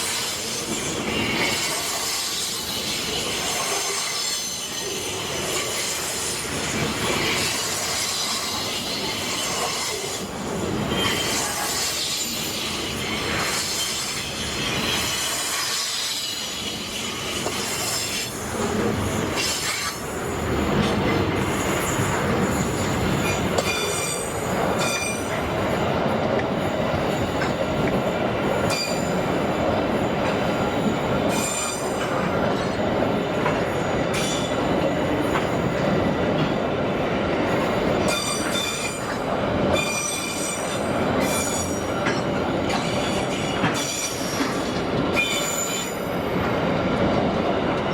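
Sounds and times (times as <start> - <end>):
steel wheels squealing on rails: 0.0 - 36.5, 37.5 - 47.9
freight train wagons rumbling: 0.0 - 47.9.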